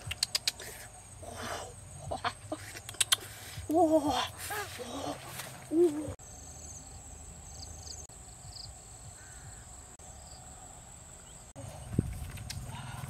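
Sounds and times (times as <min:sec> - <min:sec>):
faint outdoor ambience: 0:00.0 - 0:13.0
insects buzzing: 0:00.0 - 0:13.0.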